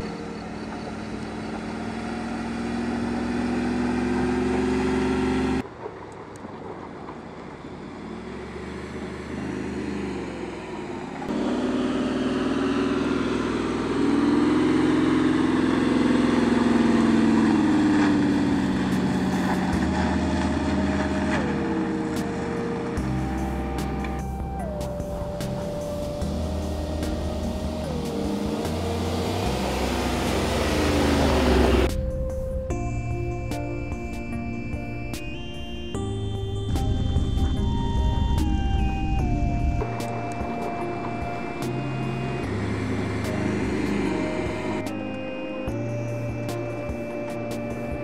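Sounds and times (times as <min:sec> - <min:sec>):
engine revving under load: 0:00.0 - 0:05.6, 0:07.6 - 0:48.0.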